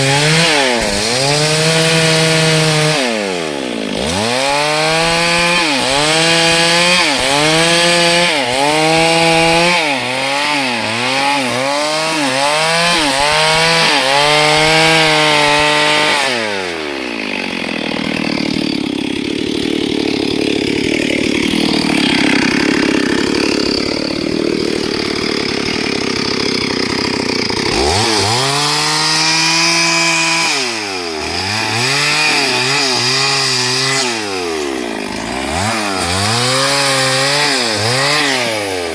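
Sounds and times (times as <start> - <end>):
chainsaw cutting at high revs: 0.0 - 38.9.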